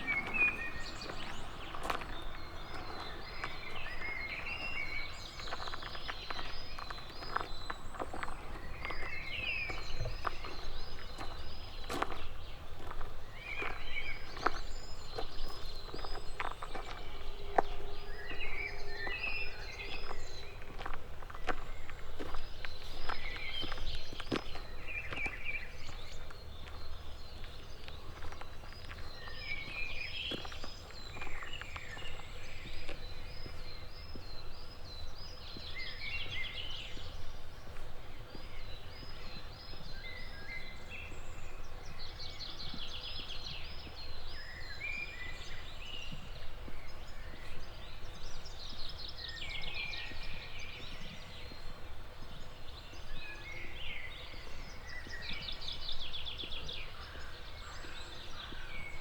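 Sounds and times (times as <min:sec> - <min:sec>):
bird song with rapid trill: 0:00.0 - 0:59.0.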